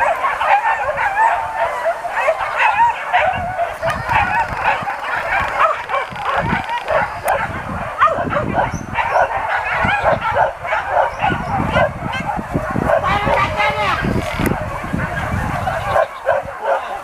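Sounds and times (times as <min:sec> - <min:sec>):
dogs yelping and whining: 0:00.0 - 0:17.0.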